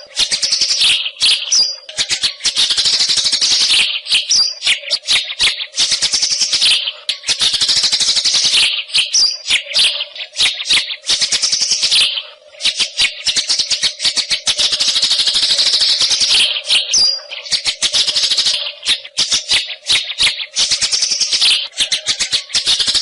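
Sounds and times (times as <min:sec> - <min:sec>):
bird singing chattering phrases: 0:00.0 - 0:23.0.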